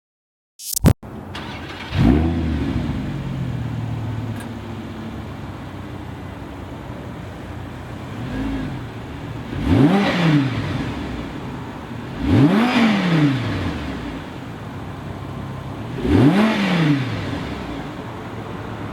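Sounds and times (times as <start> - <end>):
car engine idling and revving: 1.0 - 18.9.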